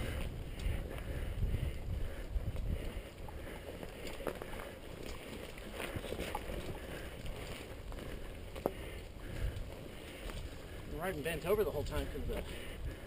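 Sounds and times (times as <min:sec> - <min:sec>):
wind rumbling on microphone: 0:00.0 - 0:13.0
light clicks and knocks on rocks: 0:00.5 - 0:01.1, 0:01.7 - 0:13.0.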